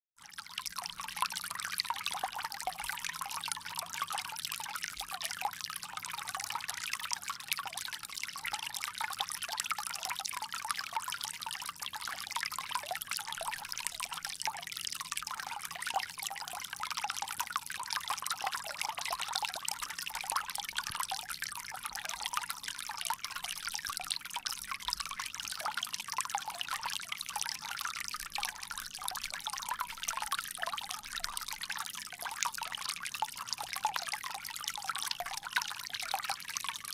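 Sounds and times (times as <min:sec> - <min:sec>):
water pouring from a spout: 0:00.2 - 0:36.9.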